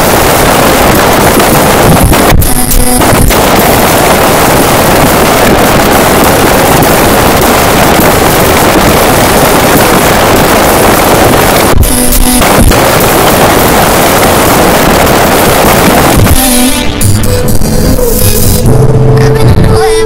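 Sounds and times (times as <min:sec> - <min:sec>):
heavily distorted song: 0:00.0 - 0:20.0.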